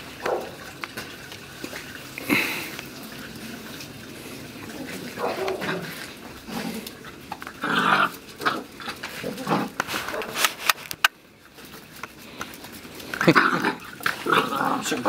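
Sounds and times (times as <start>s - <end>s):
puppies growling and yipping: 0.1s - 10.6s, 11.7s - 15.0s.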